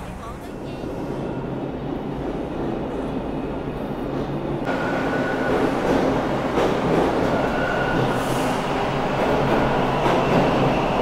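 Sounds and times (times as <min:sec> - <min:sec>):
subway train rumbling past: 0:00.0 - 0:11.0
train whine: 0:00.0 - 0:11.0.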